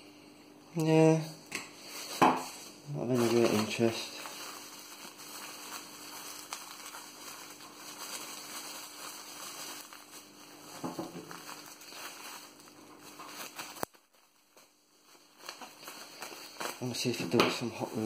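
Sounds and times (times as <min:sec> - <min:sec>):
bubble wrap and paper rustling: 0:01.8 - 0:18.0.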